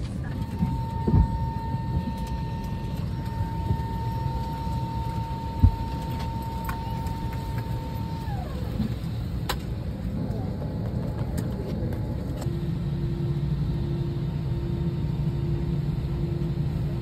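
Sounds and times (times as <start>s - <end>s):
thin steady whine: 0.0s - 17.0s
vehicle interior rumble: 0.0s - 17.0s.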